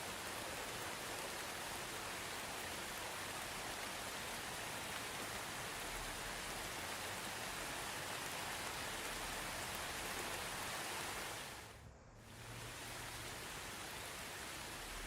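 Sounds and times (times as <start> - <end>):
soft rain falling: 0.0 - 15.0.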